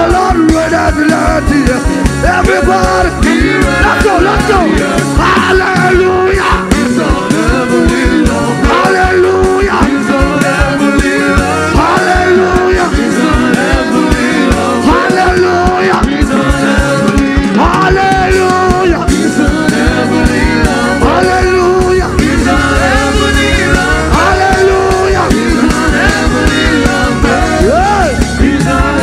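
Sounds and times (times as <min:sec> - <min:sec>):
fast drum beat: 0:00.0 - 0:29.0
loud band music: 0:00.0 - 0:29.0
person singing: 0:00.0 - 0:29.0.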